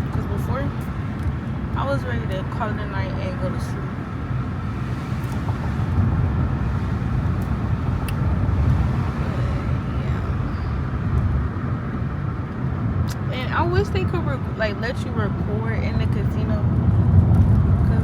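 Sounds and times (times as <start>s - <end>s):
car rumbling on road: 0.0s - 18.0s.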